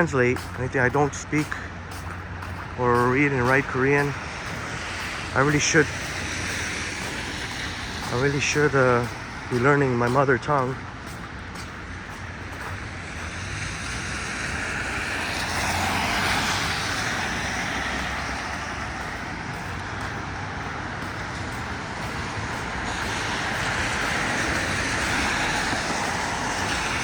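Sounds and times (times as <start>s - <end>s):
car tyres hissing on wet road: 4.0s - 27.0s.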